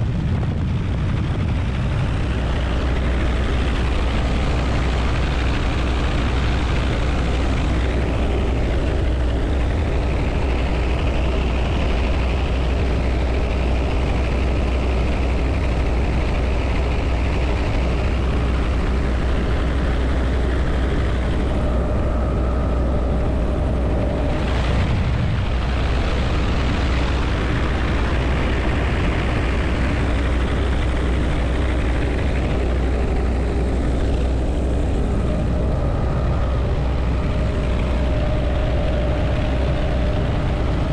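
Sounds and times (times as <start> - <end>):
helicopter rotor and engine noise: 0.0 - 40.9.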